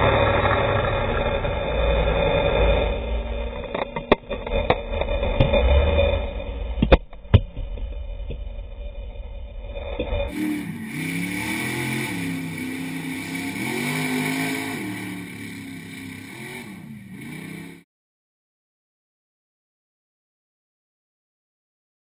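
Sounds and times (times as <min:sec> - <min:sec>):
truck engine revving: 0:00.0 - 0:17.8.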